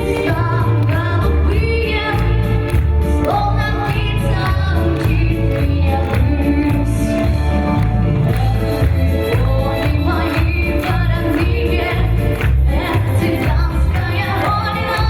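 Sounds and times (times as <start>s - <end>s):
pulsing bass: 0.0s - 15.0s.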